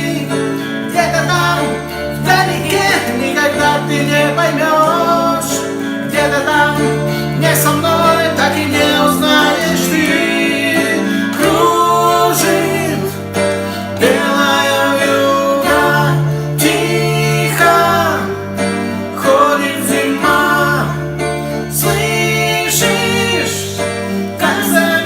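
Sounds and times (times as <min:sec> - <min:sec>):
instrumental accompaniment with bass: 0:00.0 - 0:25.0
person singing: 0:00.0 - 0:25.0.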